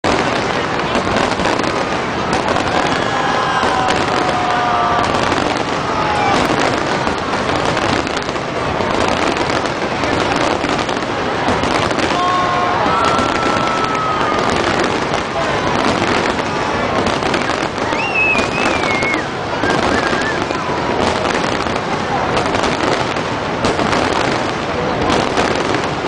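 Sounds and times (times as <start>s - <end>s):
crowd voices: 0.0s - 26.0s
fireworks bursts and crackling: 0.0s - 26.0s.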